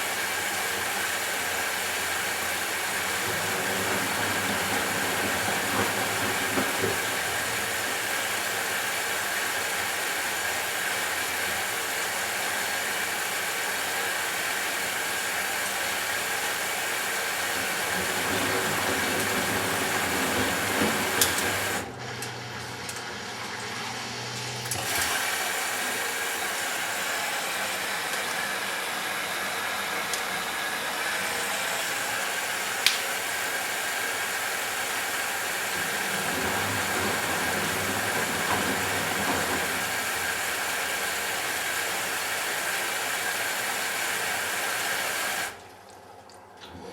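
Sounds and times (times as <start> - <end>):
washing machine rushing: 0.0 - 46.9.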